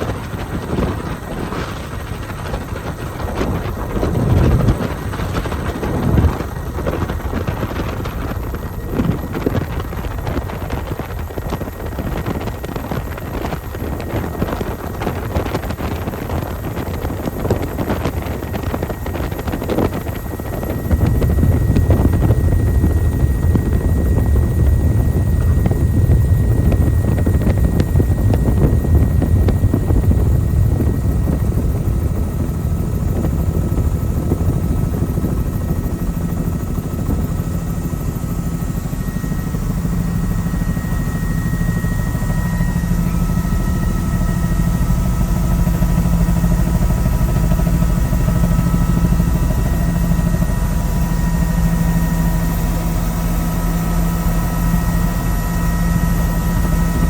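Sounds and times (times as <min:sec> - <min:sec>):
faint steady whine: 0:00.0 - 0:57.0
helicopter rotor and engine: 0:00.0 - 0:57.0.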